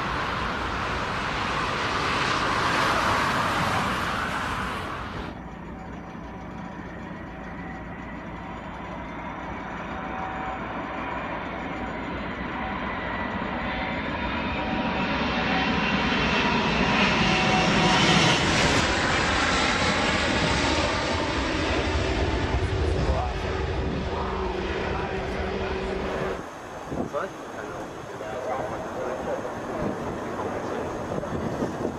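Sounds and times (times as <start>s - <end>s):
airplane engines: 0.0s - 31.9s
engine whine: 0.0s - 31.9s.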